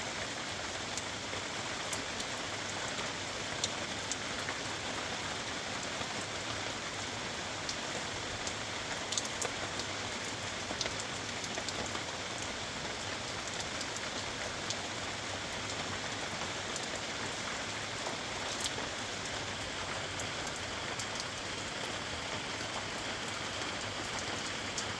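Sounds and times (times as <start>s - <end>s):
steady rain falling: 0.0s - 24.9s
raindrops striking close by: 0.1s - 24.9s.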